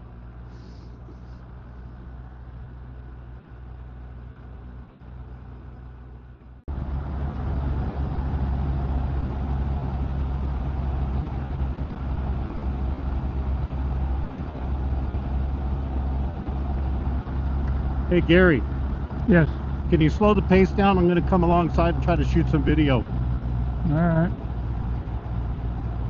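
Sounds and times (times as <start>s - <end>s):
motorcycle engine hum: 0.0s - 26.0s
wind and road noise: 0.0s - 26.0s.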